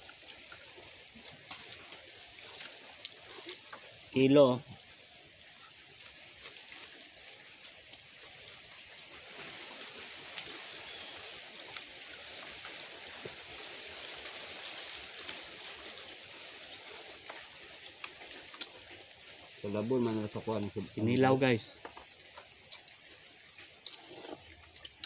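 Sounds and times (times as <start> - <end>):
faint outdoor hiss: 0.0 - 25.0
people eating with hands: 0.0 - 25.0.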